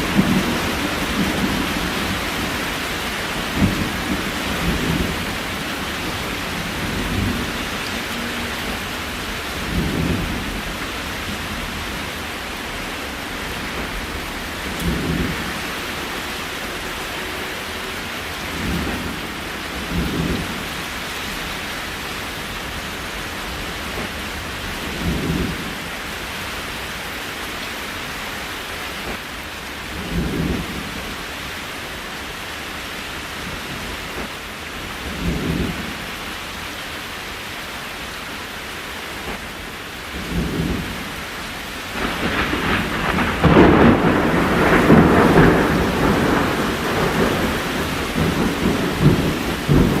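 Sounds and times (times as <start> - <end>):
steady rain hiss: 0.0 - 50.0.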